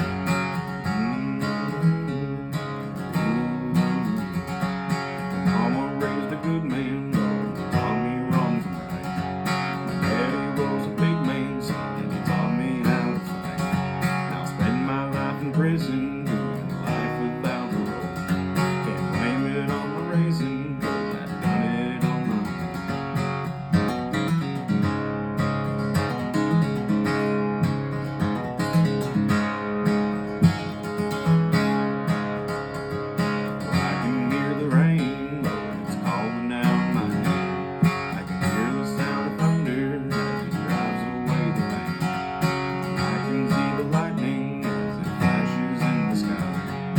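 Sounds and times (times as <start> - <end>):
sliding guitar melody: 0.0 - 46.9
strummed acoustic guitar chords: 0.0 - 46.9.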